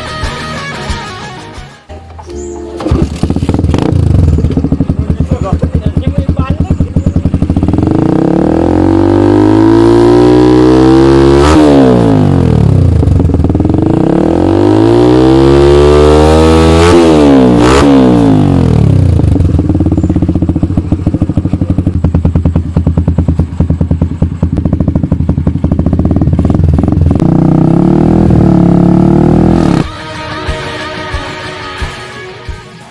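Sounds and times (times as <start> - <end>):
motorcycle engine revving and idling: 2.2 - 29.9.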